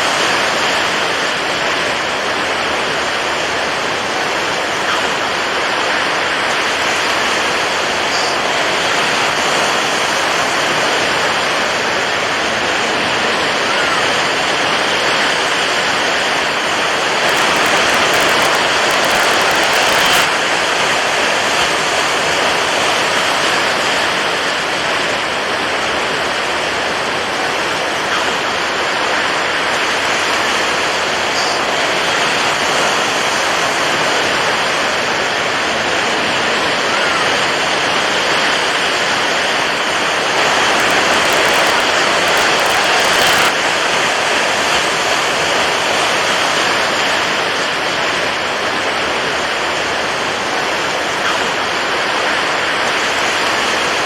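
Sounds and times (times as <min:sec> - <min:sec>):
water waves rushing: 0:00.0 - 0:54.0.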